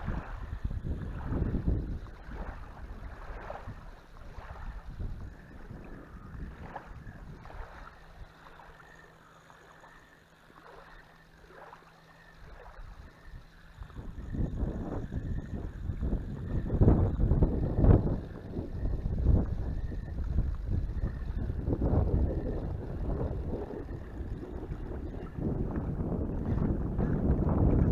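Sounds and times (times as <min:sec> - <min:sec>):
wind buffeting microphone: 0:00.0 - 0:08.6, 0:12.6 - 0:27.9
faint low hum: 0:00.0 - 0:27.9.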